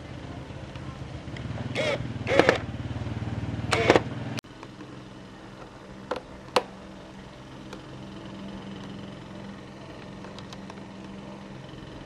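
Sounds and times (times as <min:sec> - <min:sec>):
small motorbike engine idling: 0:00.0 - 0:12.0.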